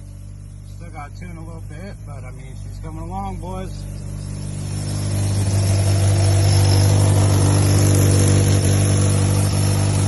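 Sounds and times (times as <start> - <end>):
four-cylinder engine running: 0.0 - 10.0.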